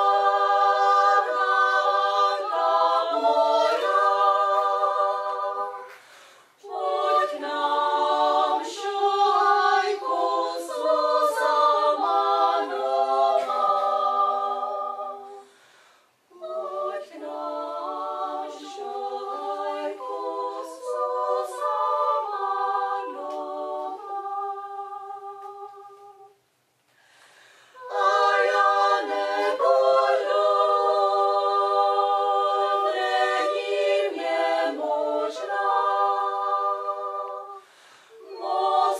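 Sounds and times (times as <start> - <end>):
women's choir singing in harmony: 0.0 - 15.7, 16.3 - 26.4, 27.7 - 38.9.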